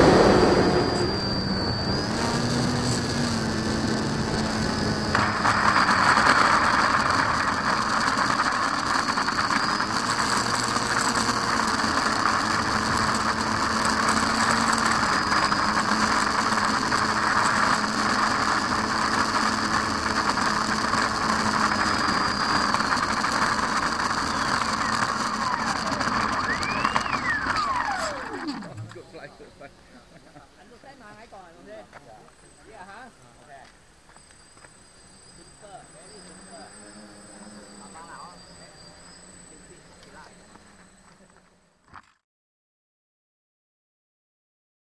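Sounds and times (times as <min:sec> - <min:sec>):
electric motor whine: 0:00.0 - 0:42.2
model plane rolling on asphalt: 0:00.0 - 0:42.2.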